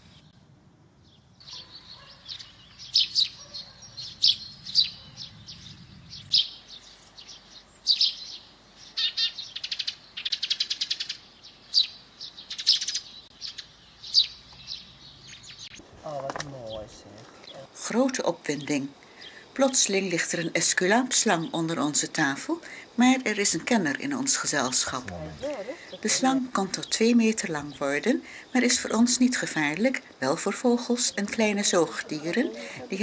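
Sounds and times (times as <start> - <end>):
small songbirds chirping: 0.0 - 33.0.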